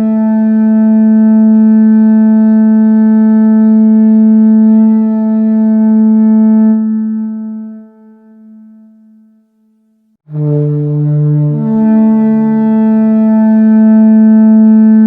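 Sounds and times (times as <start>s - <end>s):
deep war horn blown: 0.0s - 8.4s, 10.2s - 15.0s.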